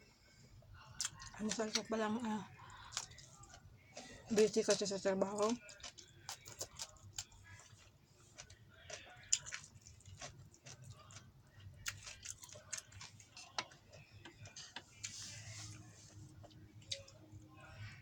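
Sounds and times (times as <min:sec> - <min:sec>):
faint chewing: 0:00.9 - 0:18.0.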